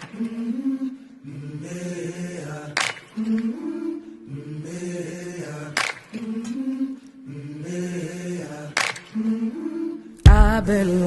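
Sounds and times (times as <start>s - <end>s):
a cappella vocal chant: 0.0s - 11.0s.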